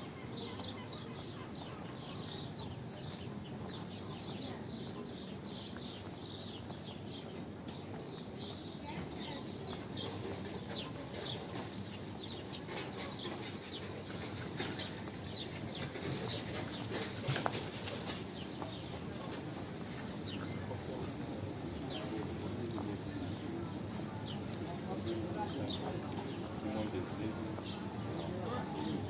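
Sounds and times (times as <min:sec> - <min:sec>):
crowd hubbub: 0:00.0 - 0:29.0
small birds chirping: 0:00.0 - 0:29.0.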